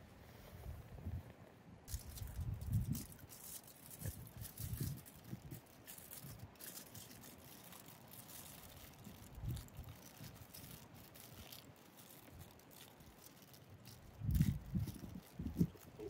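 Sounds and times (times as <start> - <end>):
aluminium foil crinkling: 1.9 - 16.0.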